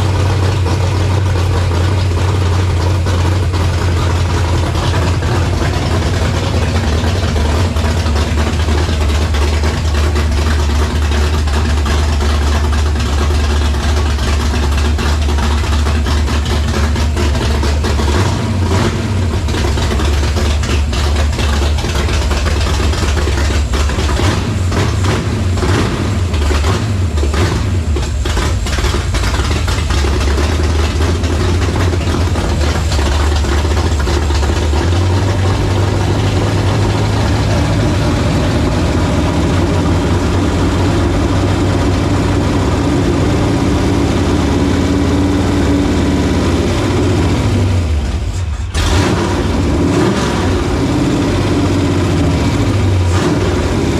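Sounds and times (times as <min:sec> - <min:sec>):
car engine idling unevenly: 0:00.0 - 0:53.9.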